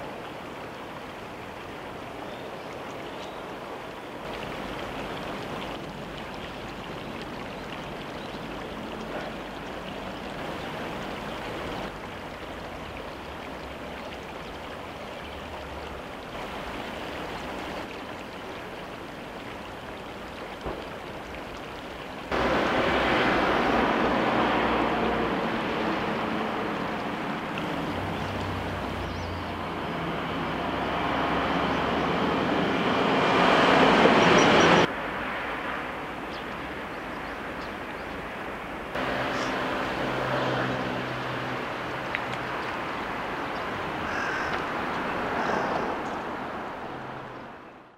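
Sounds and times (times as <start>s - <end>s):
river water rushing: 0.0s - 47.9s.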